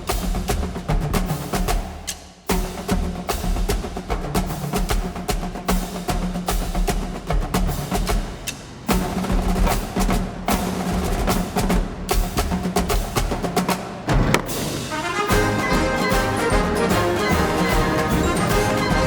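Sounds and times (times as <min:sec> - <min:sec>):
percussion-led music: 0:00.0 - 0:19.0.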